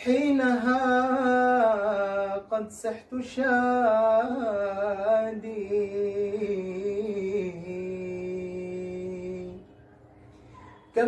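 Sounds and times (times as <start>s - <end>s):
man singing unaccompanied: 0.0s - 9.7s.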